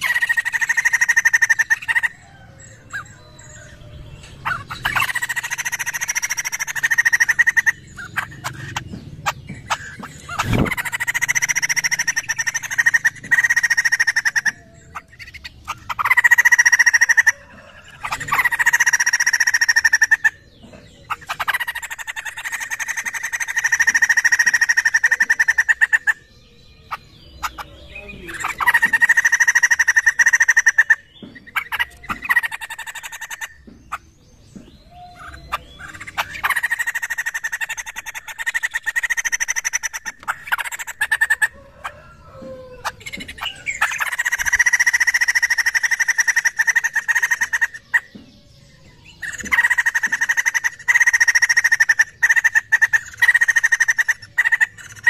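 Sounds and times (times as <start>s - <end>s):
bird chattering laughing calls: 0.0s - 55.0s.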